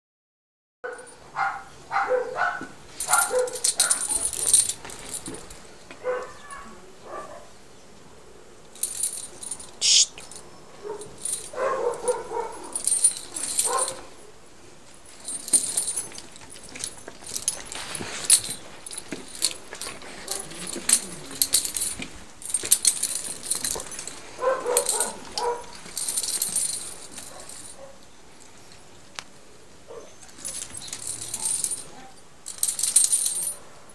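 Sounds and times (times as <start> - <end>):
collar and leash clip jingling: 0.9 - 7.2, 8.7 - 14.3, 15.0 - 28.9, 29.9 - 33.9.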